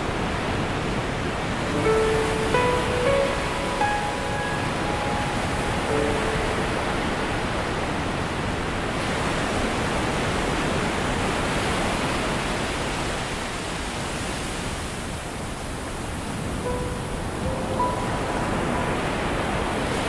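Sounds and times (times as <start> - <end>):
ocean surf rushing: 0.1 - 20.0.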